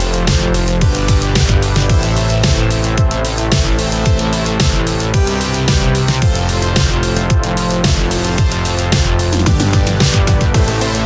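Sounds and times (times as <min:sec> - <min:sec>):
held synth notes: 0:00.0 - 0:11.0
deep drum hits: 0:00.3 - 0:10.9.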